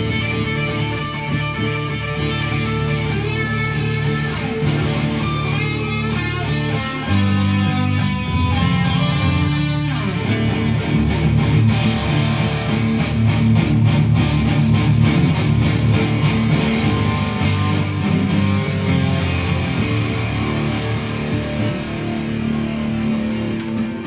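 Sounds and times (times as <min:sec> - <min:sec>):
electric guitar jam: 0:00.0 - 0:24.0.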